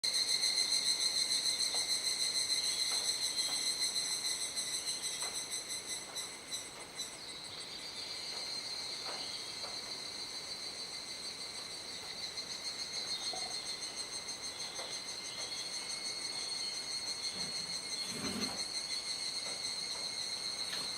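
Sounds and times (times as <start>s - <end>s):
cicadas buzzing in chorus: 0.0s - 20.9s.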